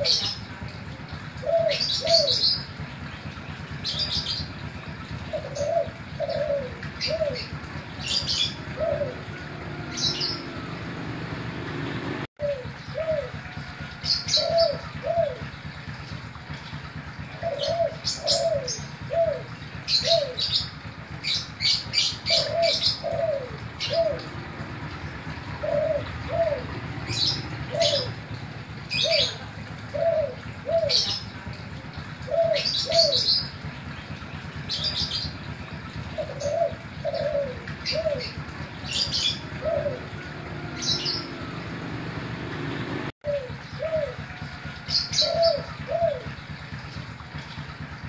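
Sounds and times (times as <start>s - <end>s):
dove cooing: 0.0s - 2.8s, 3.8s - 33.5s, 35.9s - 47.6s.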